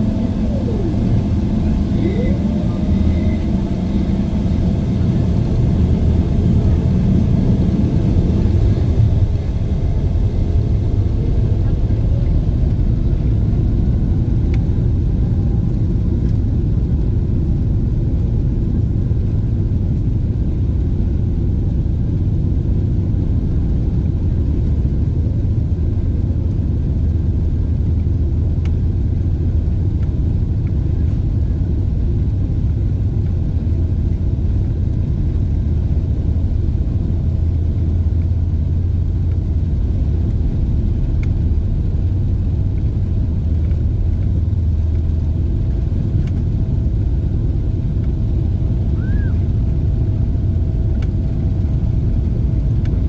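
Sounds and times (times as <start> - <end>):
airliner engine rumble in cabin: 0.0 - 53.0.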